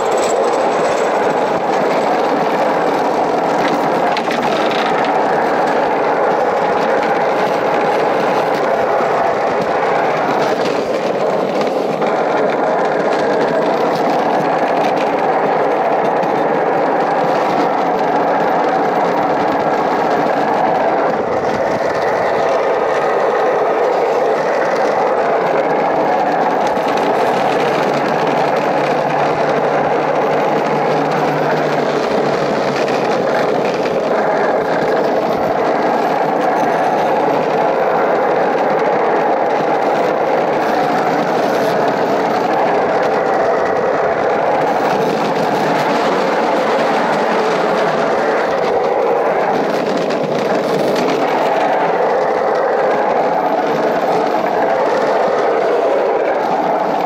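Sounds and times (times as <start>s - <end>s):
cart wheels rattling on concrete: 0.0s - 57.0s.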